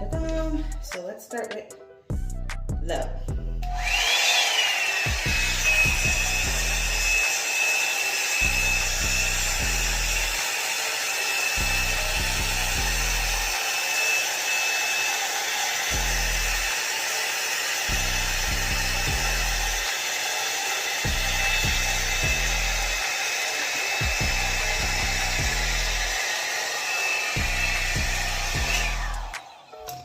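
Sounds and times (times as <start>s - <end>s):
hair dryer brush motor whine: 3.6s - 30.0s.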